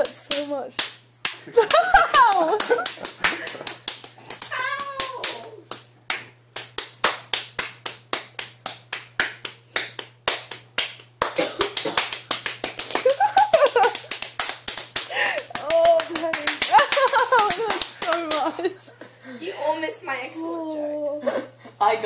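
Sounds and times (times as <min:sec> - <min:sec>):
hands slapping bare skin: 0:00.0 - 0:18.6.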